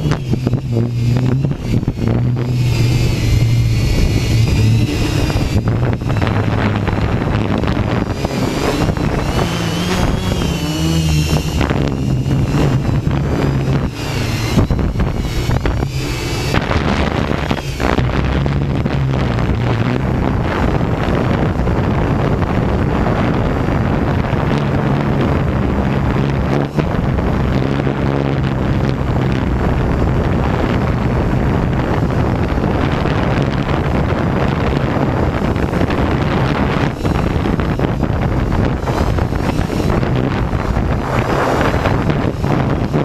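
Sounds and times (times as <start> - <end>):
drone motors humming: 0.0 - 43.0
wind on microphone: 0.0 - 43.0.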